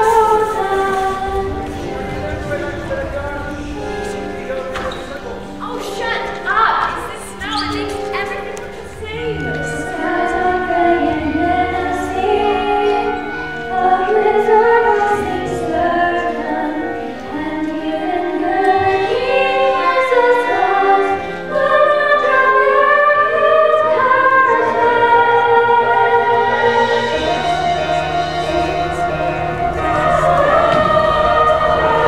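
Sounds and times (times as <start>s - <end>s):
children's chorus singing: 0.0s - 4.6s, 5.7s - 32.0s
musical accompaniment: 0.0s - 32.0s.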